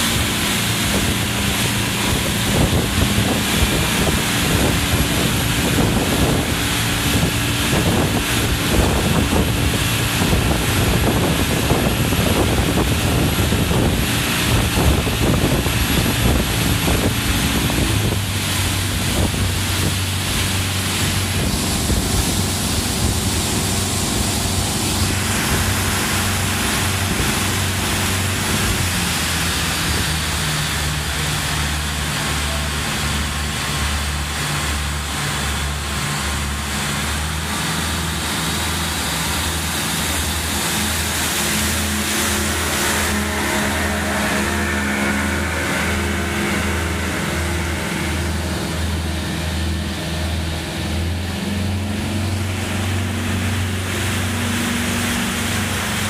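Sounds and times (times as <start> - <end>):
boat engine running: 0.0 - 56.0
water splashing against hull: 0.0 - 56.0
wind buffeting microphone: 0.0 - 56.0.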